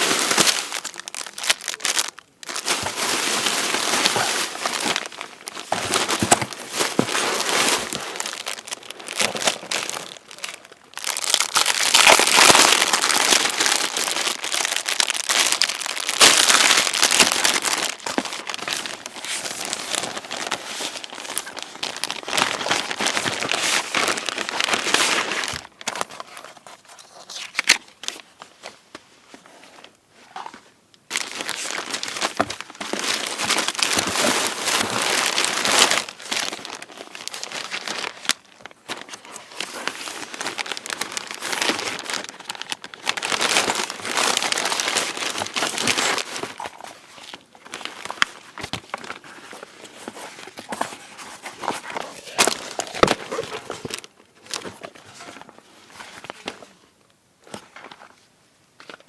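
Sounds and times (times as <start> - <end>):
crinkly material rustling: 0.0 - 59.0.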